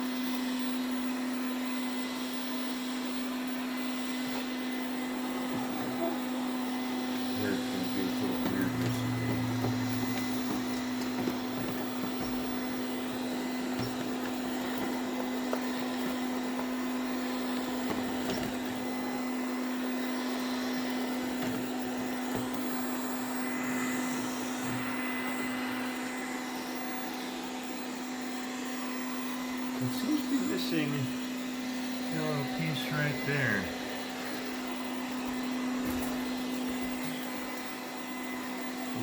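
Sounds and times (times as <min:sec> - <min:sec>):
robot vacuum motor hum: 0:00.0 - 0:39.0.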